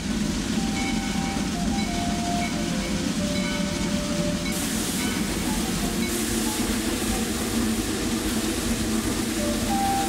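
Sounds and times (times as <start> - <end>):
steam hiss: 0.0 - 10.0
steam locomotive mechanical rumble: 0.0 - 10.0.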